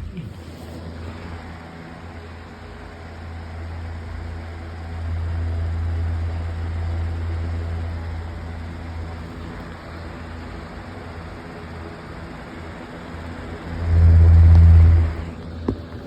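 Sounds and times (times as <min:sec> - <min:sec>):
fan running: 0:00.0 - 0:16.0.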